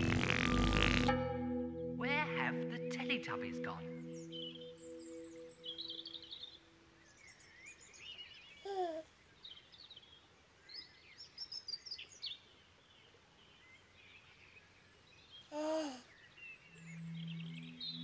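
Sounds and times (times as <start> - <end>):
small birds chirping: 2.1 - 18.0.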